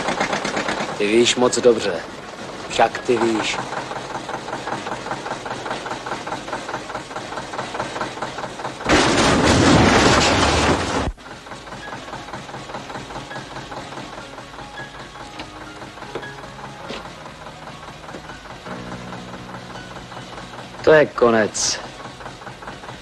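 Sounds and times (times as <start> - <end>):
tractor diesel engine idling: 0.0 - 9.3, 10.7 - 23.0.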